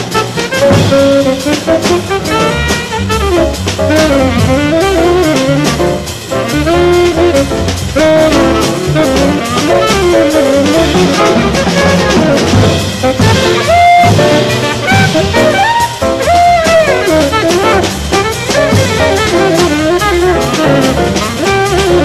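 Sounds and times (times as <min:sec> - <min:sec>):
drum kit: 0:00.0 - 0:22.0
tenor saxophone jazz solo: 0:00.0 - 0:22.0.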